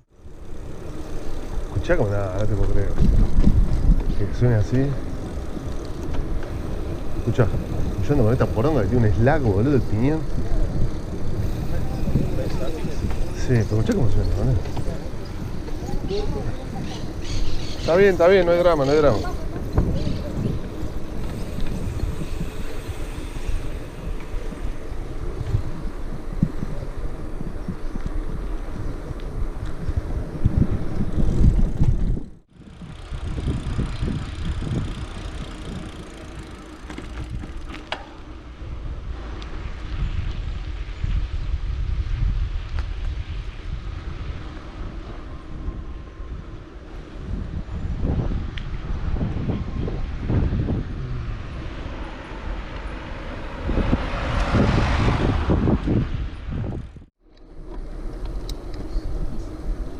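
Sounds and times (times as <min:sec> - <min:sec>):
bike rattles and clicks: 0:00.0 - 0:59.9
low rumble of bike ride: 0:00.0 - 0:59.9
wind rushing over microphone: 0:00.0 - 0:59.9.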